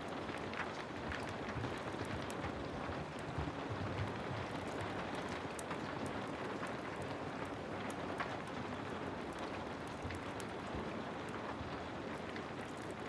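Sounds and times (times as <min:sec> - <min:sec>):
heavy rain falling: 0:00.0 - 0:13.0
wood fire crackling: 0:00.0 - 0:13.0.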